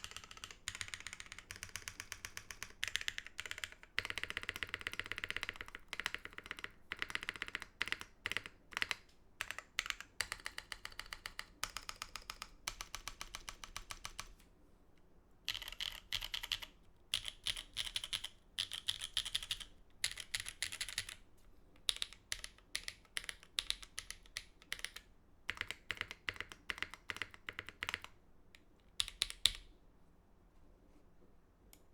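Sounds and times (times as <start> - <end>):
mechanical keyboard typing: 0.0 - 14.4, 15.5 - 21.2, 21.8 - 28.2, 28.9 - 29.7.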